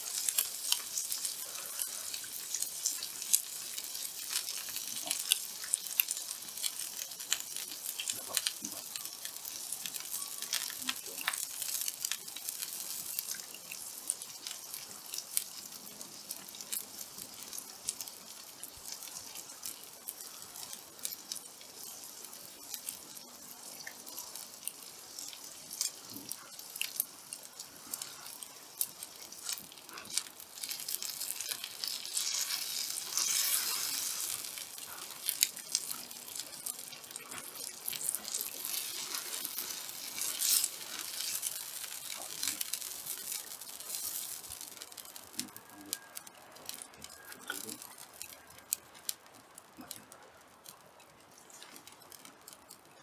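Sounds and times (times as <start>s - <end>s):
meat sizzling on a griddle: 0.0s - 50.0s.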